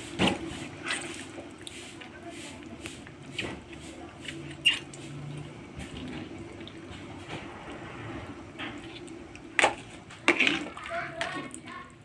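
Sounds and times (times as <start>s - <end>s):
broth bubbling in pan: 0.0s - 12.0s.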